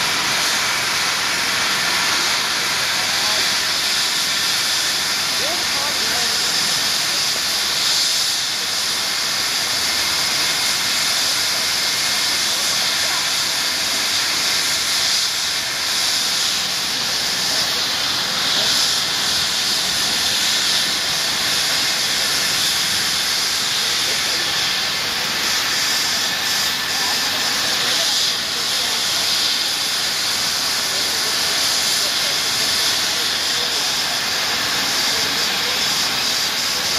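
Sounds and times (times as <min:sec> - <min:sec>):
helicopter turbine hissing: 0:00.0 - 0:36.9.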